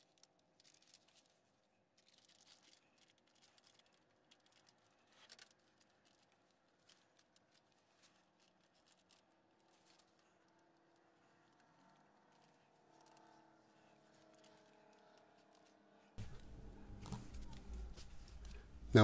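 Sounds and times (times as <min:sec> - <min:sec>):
gloved hands scratching: 0:00.0 - 0:19.0.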